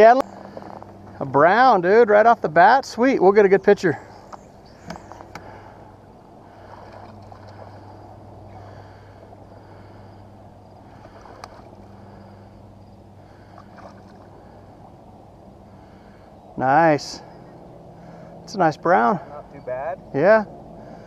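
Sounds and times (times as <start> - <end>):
steady low hum: 0.0 - 21.0
water along kayak hull: 0.0 - 21.0.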